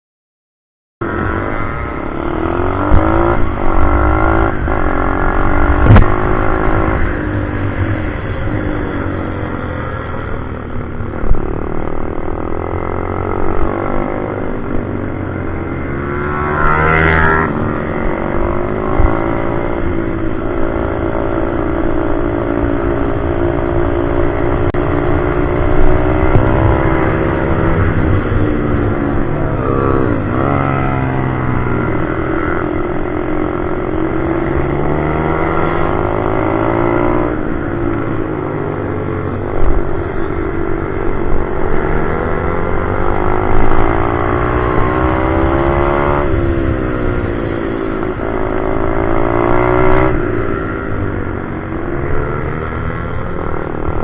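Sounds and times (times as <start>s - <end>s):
motorbike engine revving: 1.0s - 54.0s.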